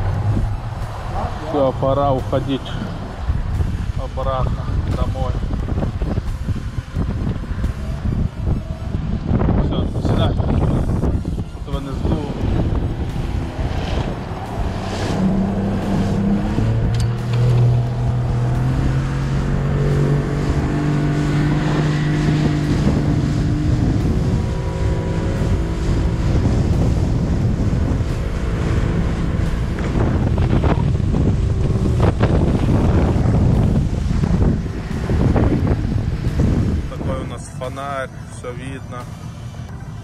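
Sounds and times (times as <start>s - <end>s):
boat motor running: 0.0s - 40.0s
water noise: 0.0s - 40.0s
wind rumble on microphone: 0.0s - 40.0s.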